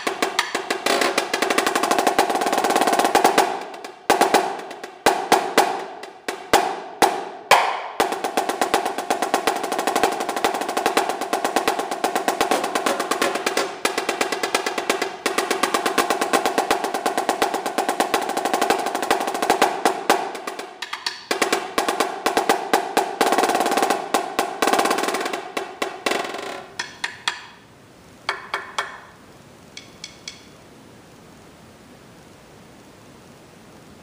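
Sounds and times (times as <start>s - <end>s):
snare drum rolls and strokes: 0.0s - 30.6s.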